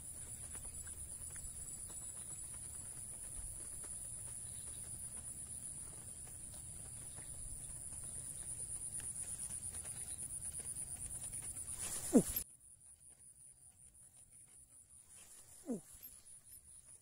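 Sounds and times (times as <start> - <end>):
insects trilling: 0.0 - 12.4, 15.0 - 17.0.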